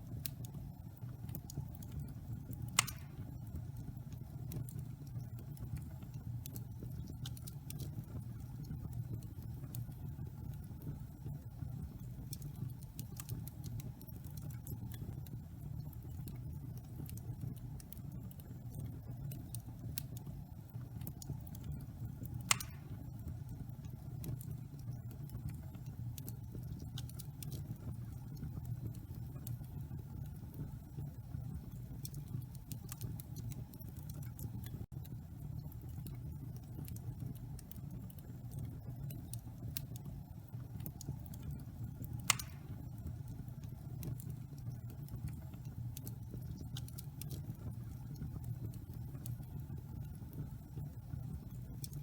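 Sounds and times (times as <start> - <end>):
fire crackling and popping: 0.0 - 52.0
wood fire burning: 0.0 - 52.0.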